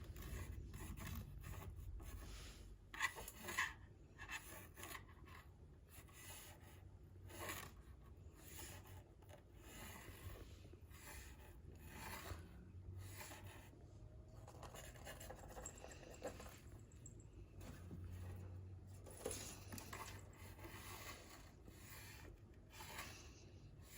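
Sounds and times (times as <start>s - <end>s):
cat scratching and scraping: 0.0s - 23.9s.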